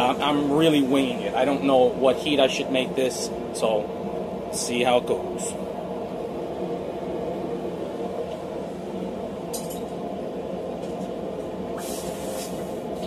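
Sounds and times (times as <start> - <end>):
forge rushing noise: 0.0 - 13.0.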